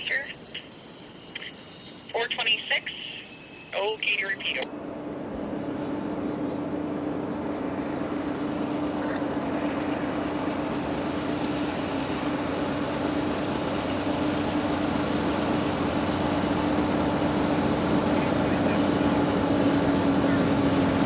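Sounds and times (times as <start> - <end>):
steady low hum: 0.0 - 21.0
train rumble and wheel noise: 0.0 - 21.0.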